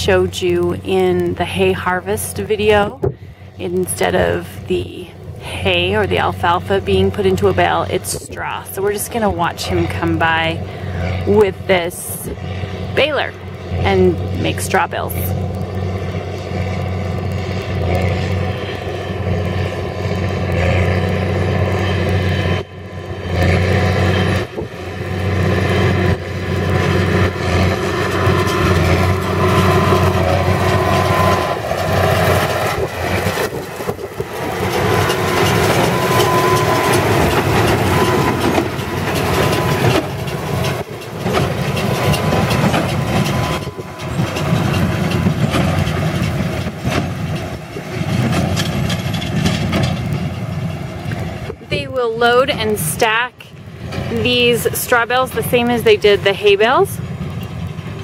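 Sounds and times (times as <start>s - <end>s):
square baler running: 0.0s - 58.0s
tractor engine: 0.0s - 58.0s.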